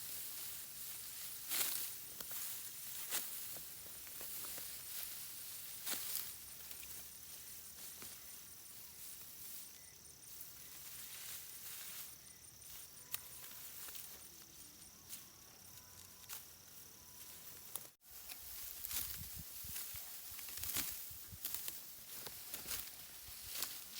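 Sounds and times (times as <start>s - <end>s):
insects chirping: 0.0s - 23.9s
rustles: 0.0s - 23.9s.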